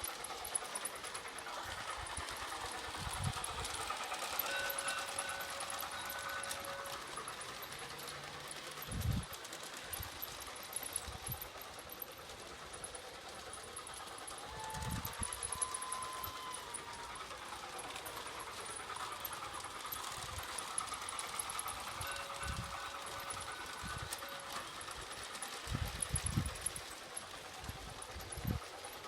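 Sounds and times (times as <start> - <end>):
model train clattering on track: 0.0 - 29.0.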